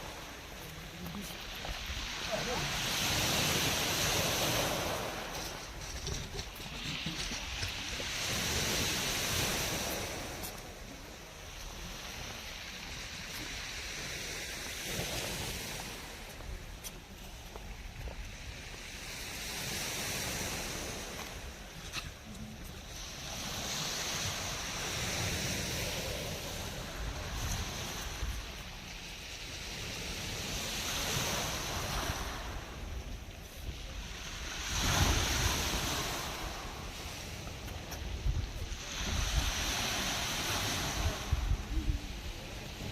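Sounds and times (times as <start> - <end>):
sea waves breaking: 0.0 - 42.9
wind rumbling on microphone: 0.0 - 42.9.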